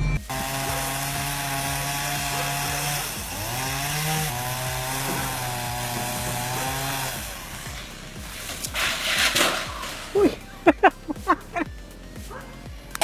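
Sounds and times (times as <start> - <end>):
chainsaw running at high revs: 0.3 - 13.0.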